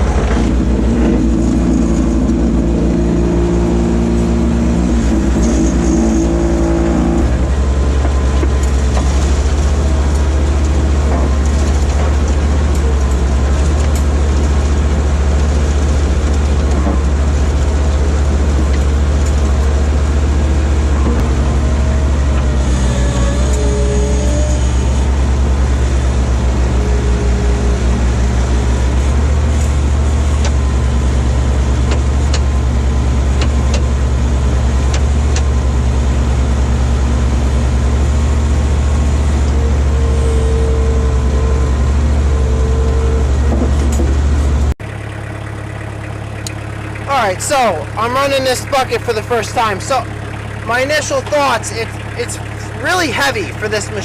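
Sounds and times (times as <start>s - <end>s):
skid steer loader engine running: 0.0s - 54.0s.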